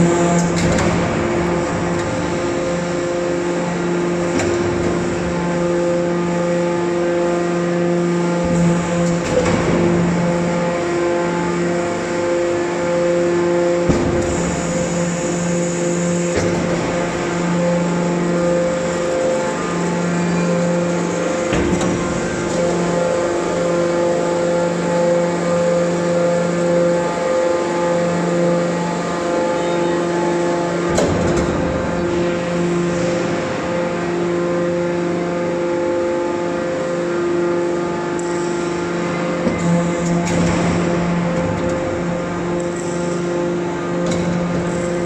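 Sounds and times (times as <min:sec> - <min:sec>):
hydraulic baler humming: 0:00.0 - 0:45.0.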